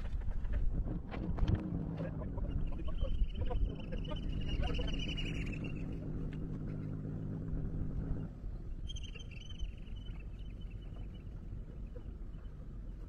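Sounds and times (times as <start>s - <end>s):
engine running: 0.0s - 13.0s
faint outdoor background: 0.0s - 13.0s.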